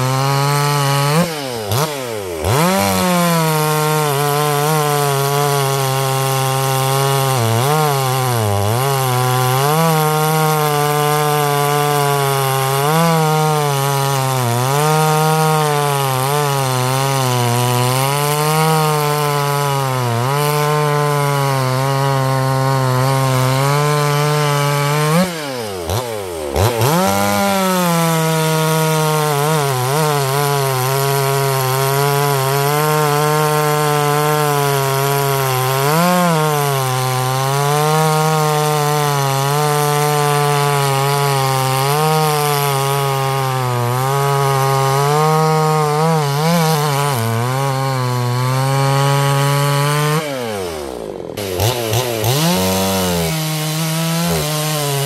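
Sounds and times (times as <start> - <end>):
chainsaw cutting at full throttle: 0.0 - 55.0.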